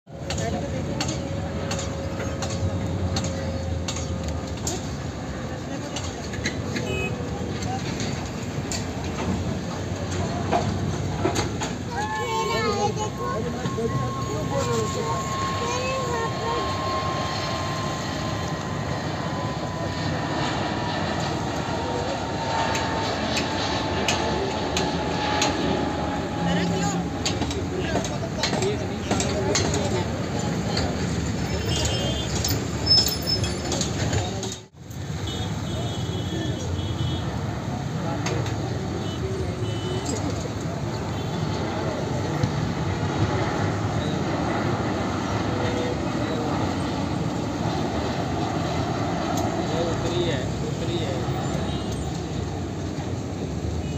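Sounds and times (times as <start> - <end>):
jet engines rushing and whining: 0.1 - 53.9.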